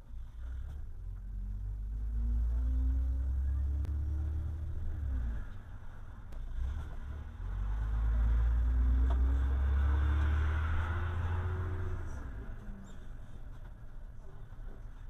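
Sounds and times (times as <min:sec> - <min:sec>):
car engine from inside cabin: 0:00.0 - 0:15.0.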